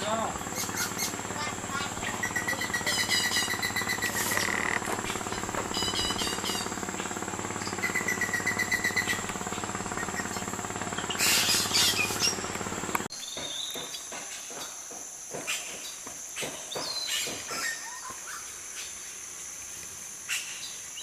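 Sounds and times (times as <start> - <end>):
birds chirping: 0.0 - 19.1
insects buzzing: 0.0 - 21.0
low mechanical hum: 0.0 - 21.0.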